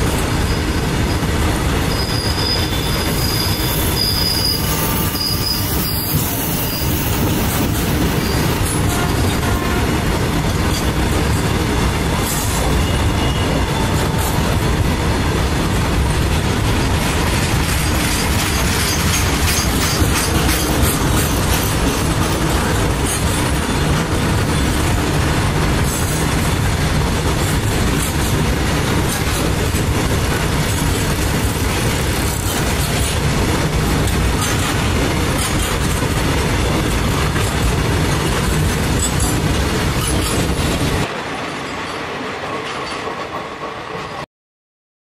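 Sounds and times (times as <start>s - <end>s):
freight train wheels clattering: 0.0s - 44.2s.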